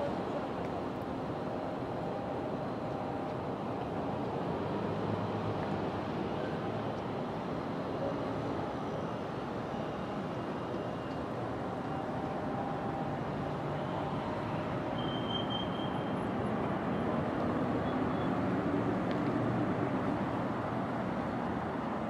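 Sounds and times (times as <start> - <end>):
traffic hum: 0.0 - 22.0.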